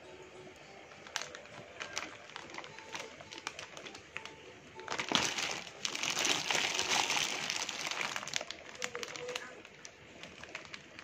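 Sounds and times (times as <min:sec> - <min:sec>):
plastic bag crinkling: 0:00.8 - 0:11.0.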